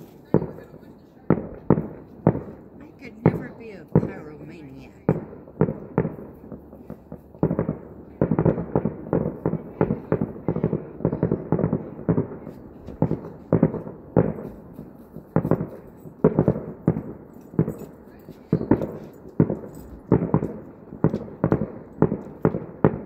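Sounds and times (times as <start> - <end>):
distant fireworks bangs: 0.0 - 23.0.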